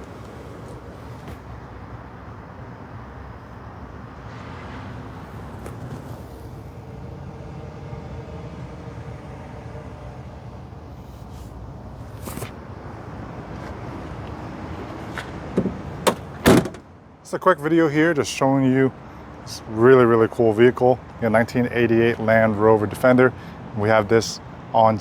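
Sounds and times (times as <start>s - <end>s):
low vehicle rumble: 0.0s - 23.9s.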